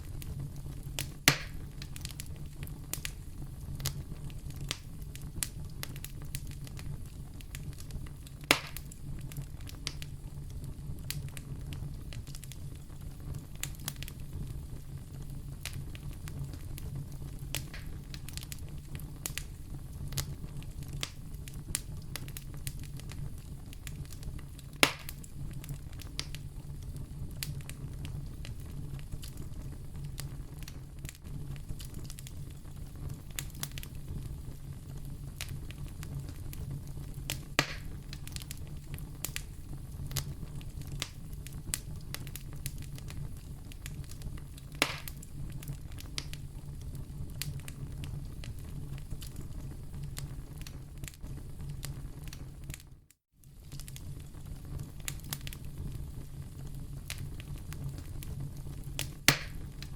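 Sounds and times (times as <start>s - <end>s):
loud pops of fire: 0.0s - 59.9s
wood fire crackling: 0.0s - 59.9s.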